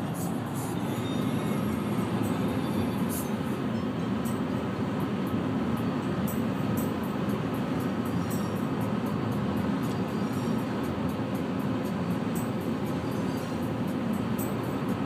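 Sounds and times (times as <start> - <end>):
car cabin road and engine drone: 0.0 - 15.0.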